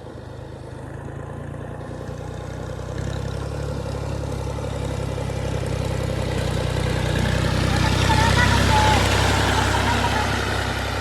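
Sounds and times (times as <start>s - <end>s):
diesel engine throbbing: 0.0s - 11.0s.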